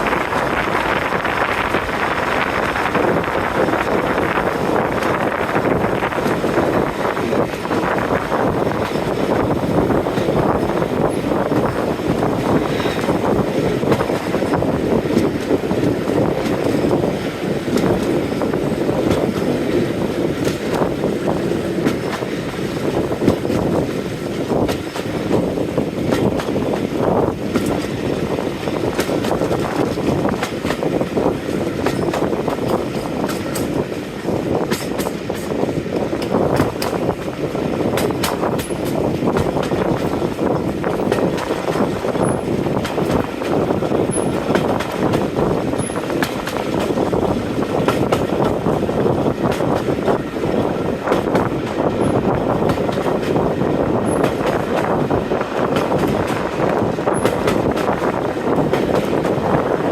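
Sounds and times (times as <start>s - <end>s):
train rumbling along: 0.0s - 59.9s
train wheel clicks: 0.0s - 59.9s.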